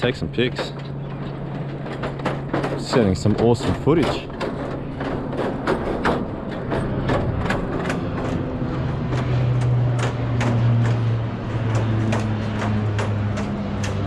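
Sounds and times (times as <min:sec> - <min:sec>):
bicycle tyres clattering on planks: 0:00.6 - 0:14.0.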